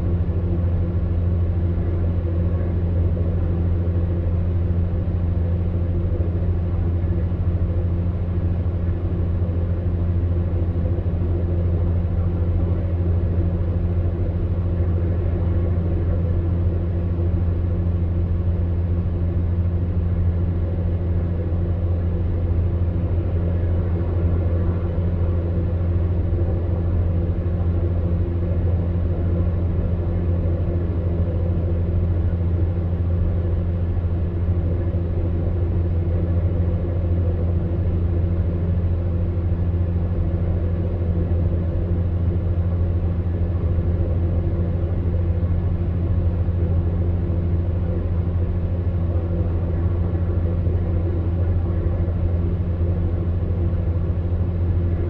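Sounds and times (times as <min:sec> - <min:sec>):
fan heater humming: 0:00.0 - 0:55.0.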